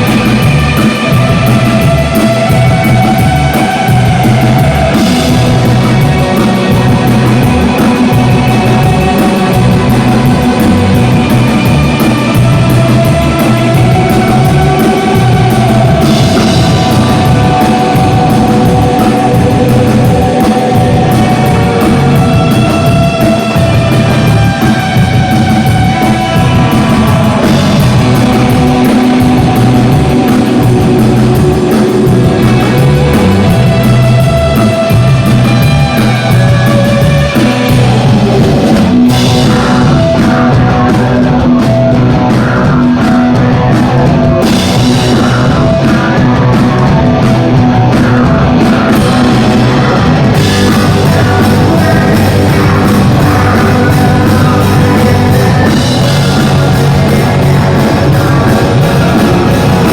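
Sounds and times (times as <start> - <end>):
live band music: 0.0 - 59.9
steady drum beat: 0.0 - 59.9.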